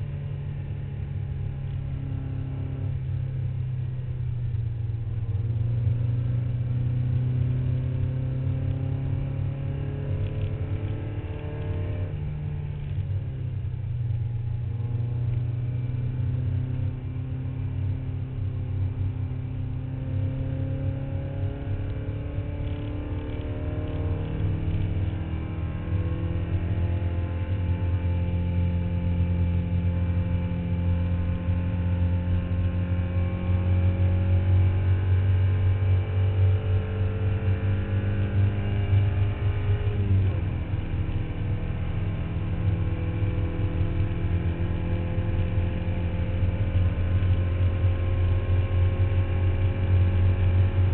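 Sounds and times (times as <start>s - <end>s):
race car engine running hard: 0.0s - 50.9s.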